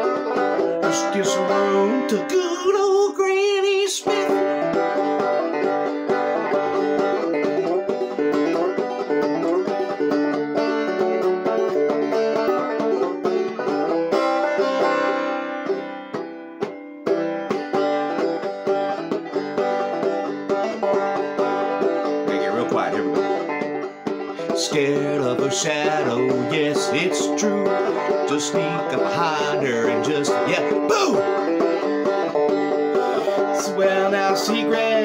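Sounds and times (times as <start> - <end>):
banjo plucked notes: 0.0 - 35.0.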